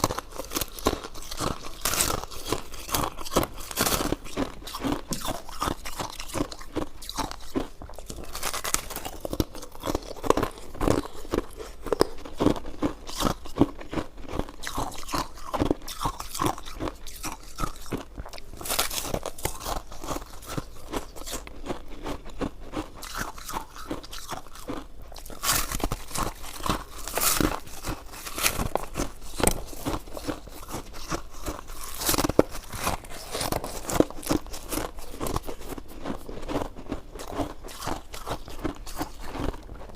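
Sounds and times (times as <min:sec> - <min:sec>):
crunching and chewing: 0:00.0 - 0:39.9.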